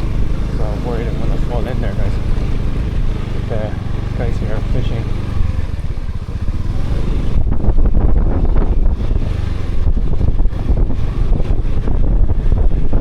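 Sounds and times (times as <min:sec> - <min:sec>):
motorbike engine running: 0:00.0 - 0:13.0
wind buffeting microphone: 0:00.0 - 0:13.0.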